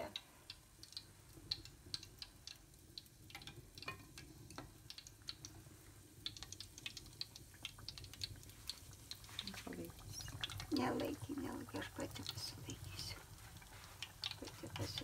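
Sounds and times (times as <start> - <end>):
hot lard crackling and popping: 0.0 - 15.0.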